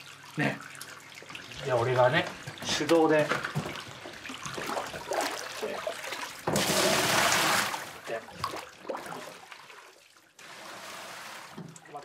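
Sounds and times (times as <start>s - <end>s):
water pouring: 0.0s - 12.0s
water splashing and trickling: 0.0s - 12.0s.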